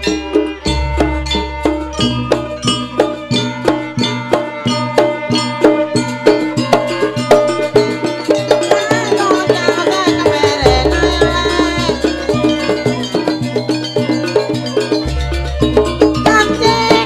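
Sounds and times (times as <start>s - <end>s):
drums and gongs beating: 0.0s - 17.0s
wavering high melody: 0.0s - 17.0s.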